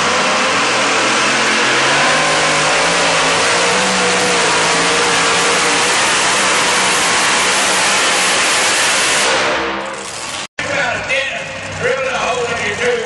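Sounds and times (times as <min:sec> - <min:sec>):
truck engine at full load: 0:00.0 - 0:13.0.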